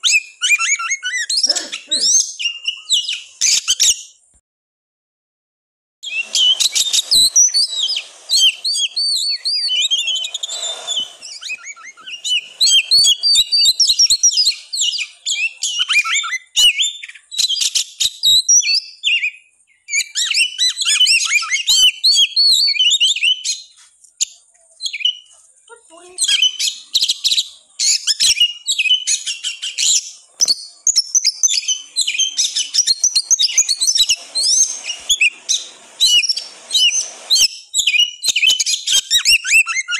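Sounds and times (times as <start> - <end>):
bird singing whistles and chirps: 0.0 - 4.2, 6.0 - 25.4, 26.1 - 39.9.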